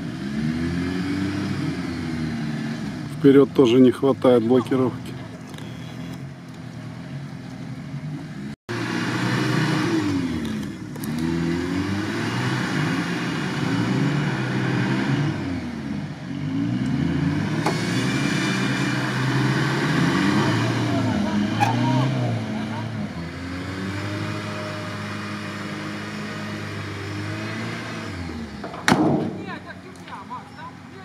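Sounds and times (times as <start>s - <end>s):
car engine revving: 0.0s - 4.0s, 4.6s - 30.7s.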